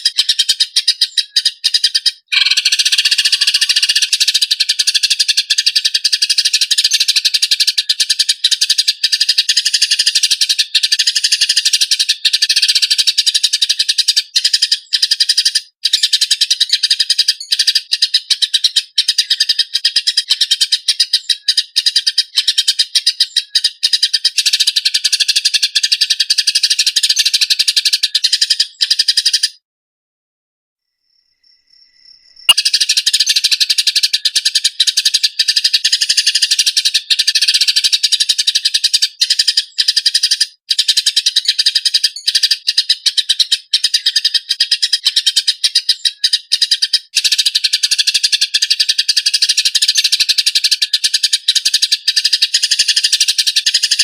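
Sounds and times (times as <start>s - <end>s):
sparrows chirping harshly: 0.0s - 29.6s, 32.4s - 54.0s.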